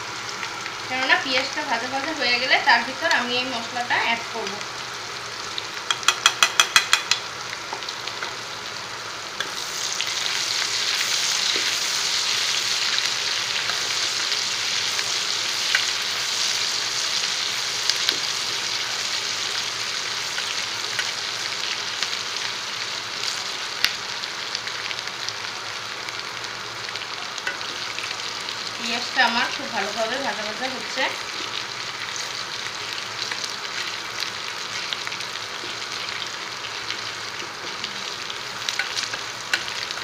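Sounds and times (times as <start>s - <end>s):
onions sizzling in oil: 0.0s - 40.0s.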